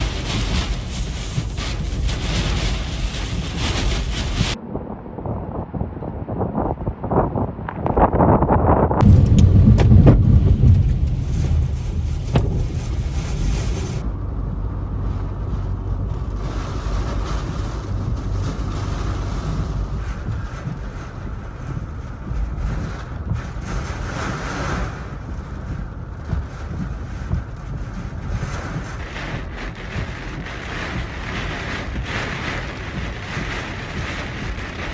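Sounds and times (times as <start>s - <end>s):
strong wind buffeting microphone: 0.0s - 34.9s.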